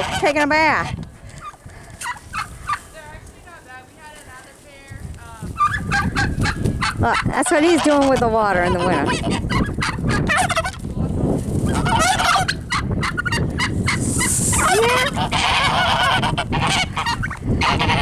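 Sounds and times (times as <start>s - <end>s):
turkeys gobbling: 0.0s - 3.5s, 5.5s - 10.8s, 11.6s - 18.0s
geese honking: 0.0s - 4.5s, 5.4s - 10.9s, 11.6s - 18.0s.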